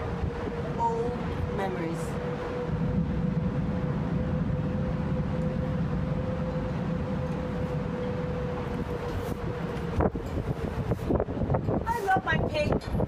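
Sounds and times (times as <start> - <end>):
low city rumble: 0.0 - 13.0
mid-pitched hum: 0.0 - 13.0.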